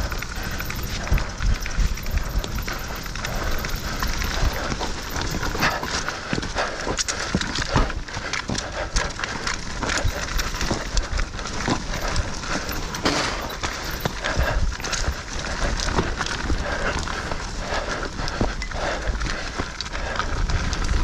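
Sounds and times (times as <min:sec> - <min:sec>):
bike knocking and rattling: 0:00.0 - 0:21.0
tyres and wind rushing: 0:00.0 - 0:21.0.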